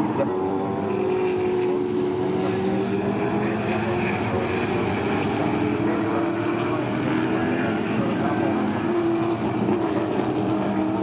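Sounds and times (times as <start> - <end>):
racing car engines running hard: 0.0 - 11.0.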